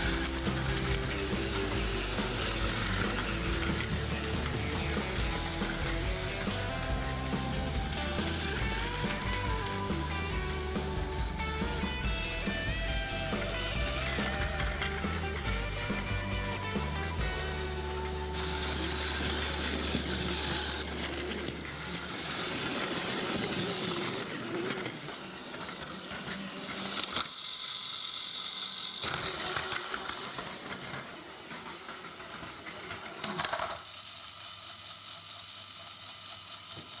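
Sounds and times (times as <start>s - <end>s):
toy train motor whirring: 0.0s - 37.0s.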